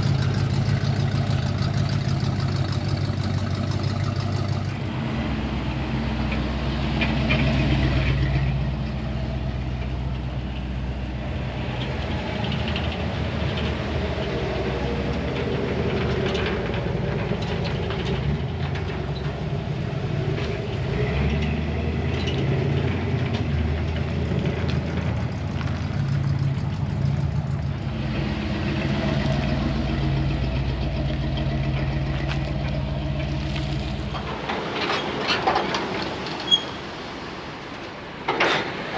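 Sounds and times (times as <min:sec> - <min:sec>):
truck engine idling: 0:00.0 - 0:35.2.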